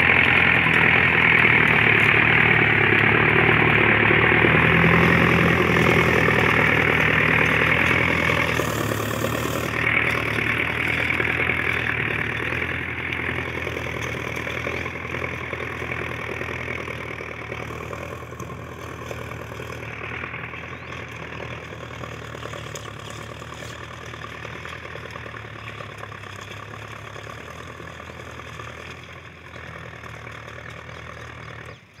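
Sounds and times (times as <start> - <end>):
tractor diesel engine: 0.0 - 32.0.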